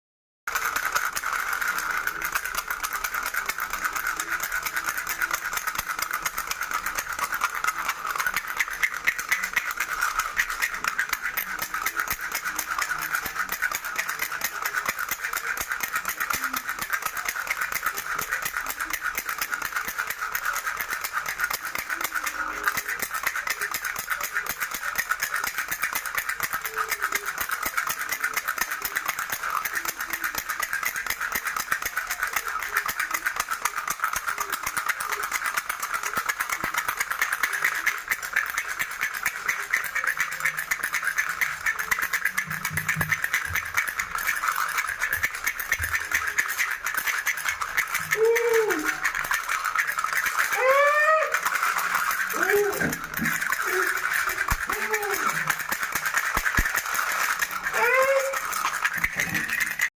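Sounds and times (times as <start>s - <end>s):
baby rattle shaking: 0.5s - 60.0s.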